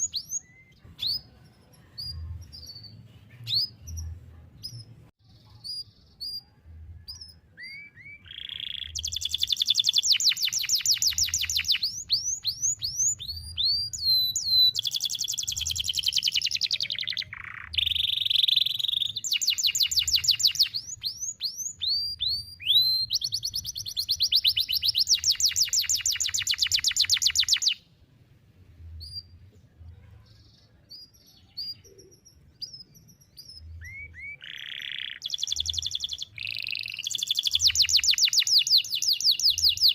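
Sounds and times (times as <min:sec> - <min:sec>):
canary singing trills: 0:00.0 - 0:27.9, 0:29.0 - 0:39.9.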